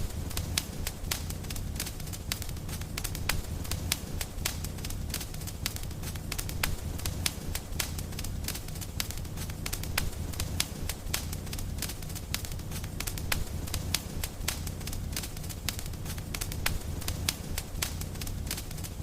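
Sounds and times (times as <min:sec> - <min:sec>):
low steady rumble: 0:00.0 - 0:19.0
wood fire crackling and popping: 0:00.0 - 0:19.0.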